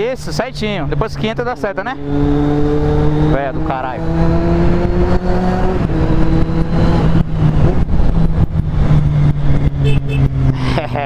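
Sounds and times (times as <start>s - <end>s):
motorcycle engine running: 0.4s - 11.0s.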